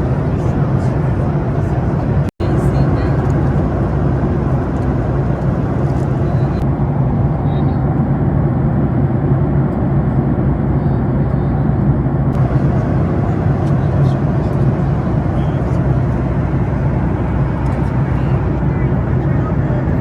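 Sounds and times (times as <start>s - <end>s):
airplane cabin engine roar: 0.0s - 20.0s.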